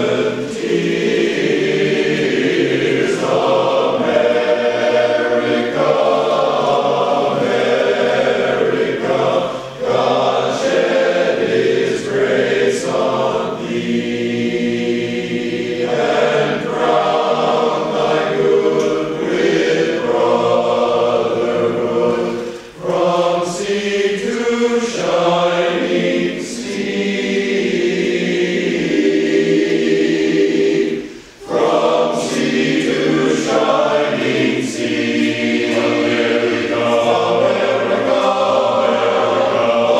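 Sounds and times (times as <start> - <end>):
men's chorus singing unaccompanied: 0.0 - 39.9.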